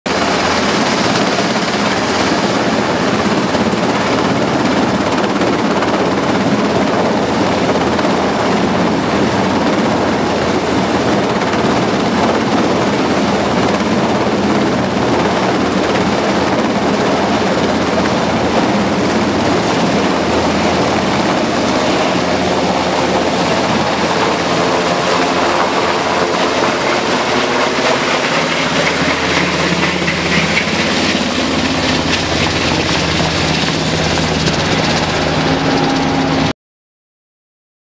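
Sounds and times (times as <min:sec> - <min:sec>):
helicopter rotor and engine: 0:00.1 - 0:36.5.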